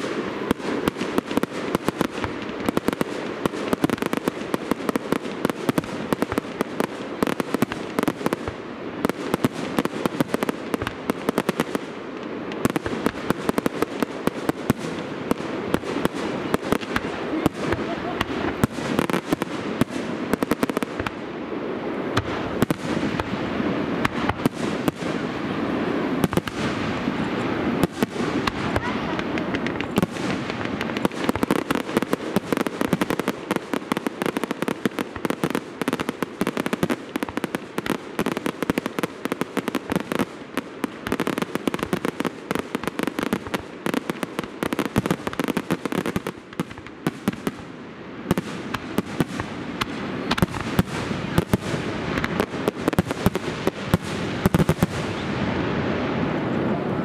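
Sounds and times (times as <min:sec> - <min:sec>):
fireworks bangs: 0:00.0 - 0:57.0
fireworks crackling and popping: 0:00.0 - 0:57.0.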